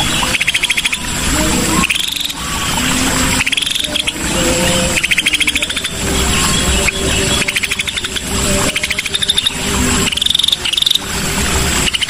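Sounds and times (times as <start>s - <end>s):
bird chattering song: 0.0s - 1.1s, 1.8s - 11.0s
thin steady high tone: 0.0s - 12.0s.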